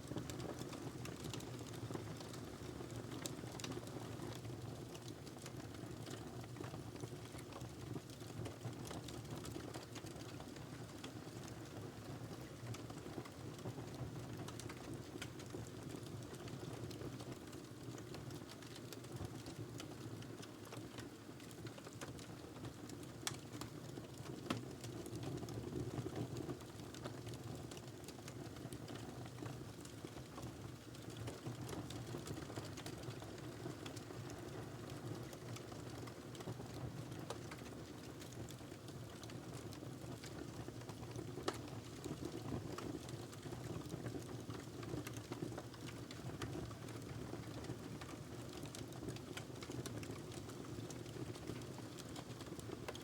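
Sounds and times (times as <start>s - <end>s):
wood fire crackling: 0.1s - 13.4s, 14.2s - 53.0s.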